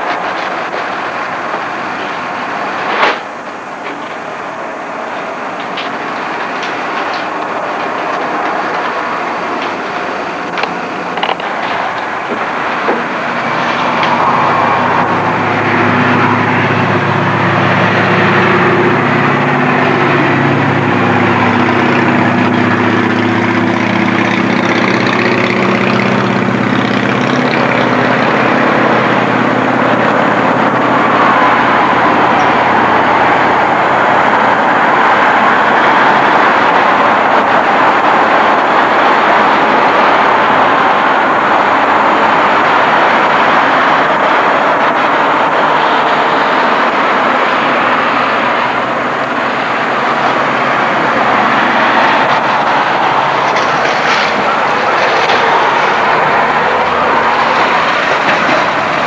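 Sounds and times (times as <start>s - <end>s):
heavy engine humming: 0.0s - 59.0s
steady rushing noise: 0.0s - 59.0s.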